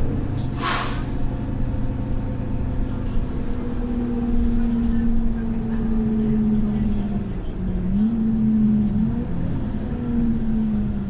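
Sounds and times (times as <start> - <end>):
bus diesel engine humming: 0.0 - 11.0.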